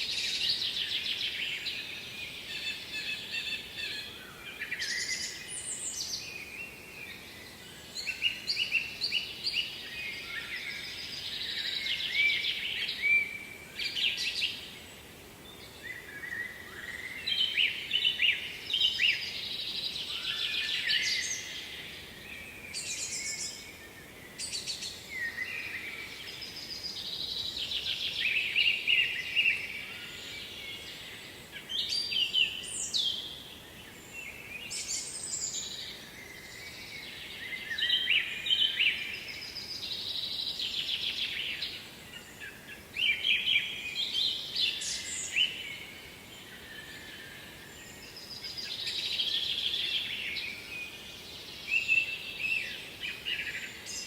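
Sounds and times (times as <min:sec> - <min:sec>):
faint steady hiss: 0:00.0 - 0:54.0
songbirds singing: 0:00.0 - 0:54.0.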